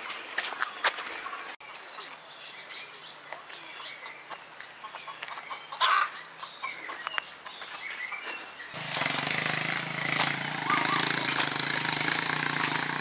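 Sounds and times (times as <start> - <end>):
birds chirping: 0.0 - 13.0
quiet rural ambience: 0.0 - 13.0.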